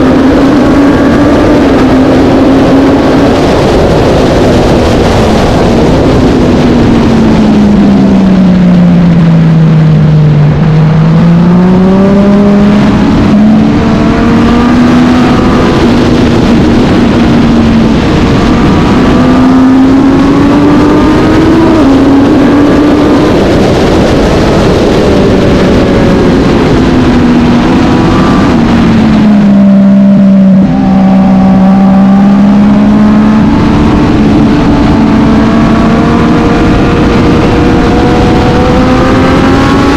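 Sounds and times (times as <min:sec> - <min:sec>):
racing motorcycle engine: 0:00.0 - 0:39.9
wind and road noise: 0:00.0 - 0:39.9.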